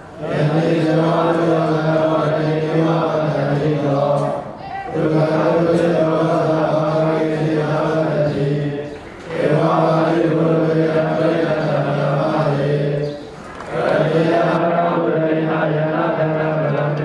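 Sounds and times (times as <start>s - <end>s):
monk chanting into a microphone: 0.2s - 17.0s.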